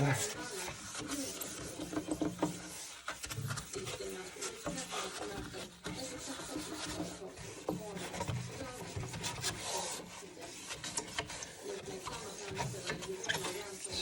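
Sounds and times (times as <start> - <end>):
paper towel wiping glass: 0.0 - 14.0.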